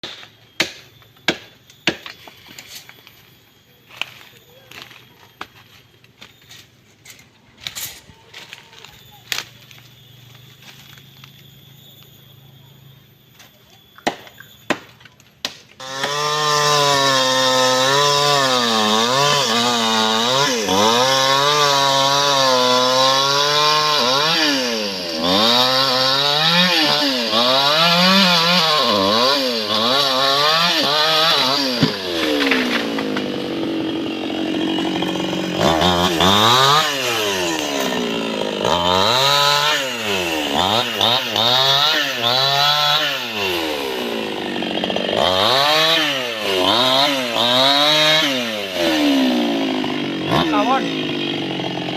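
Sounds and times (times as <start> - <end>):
chainsaw cutting wood: 0.0 - 12.1, 13.3 - 51.9.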